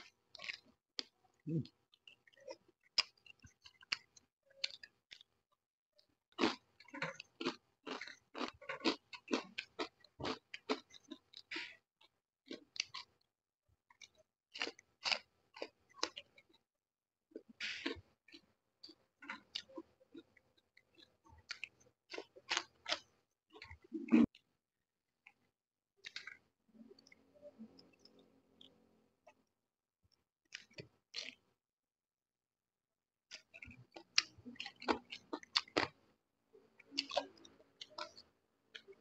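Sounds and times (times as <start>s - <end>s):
person chewing and smacking: 0.0s - 5.4s, 6.0s - 16.6s, 17.3s - 24.5s, 25.2s - 29.4s, 30.1s - 31.5s, 33.3s - 36.1s, 36.8s - 39.0s.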